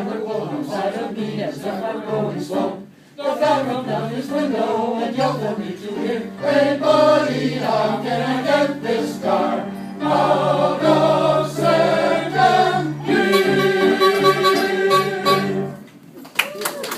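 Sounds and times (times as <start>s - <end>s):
choir singing: 0.0s - 15.8s
musical accompaniment: 0.0s - 16.0s.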